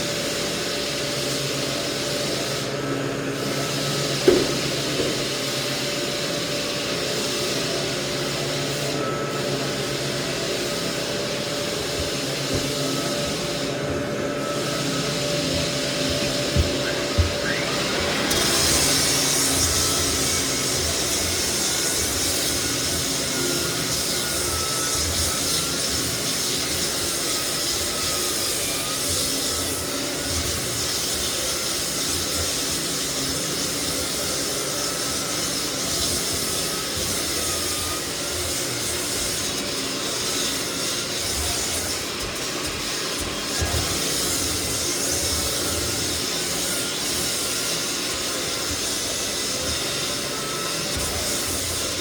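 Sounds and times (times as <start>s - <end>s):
floor sander running: 0.0s - 52.0s.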